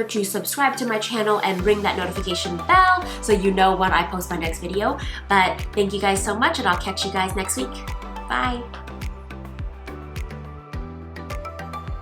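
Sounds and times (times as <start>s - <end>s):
upbeat instrumental music: 1.4s - 12.0s.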